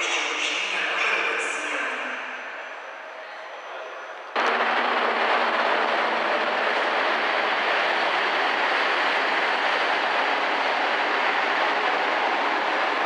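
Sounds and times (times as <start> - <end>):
train wheels rolling past: 2.3 - 13.0.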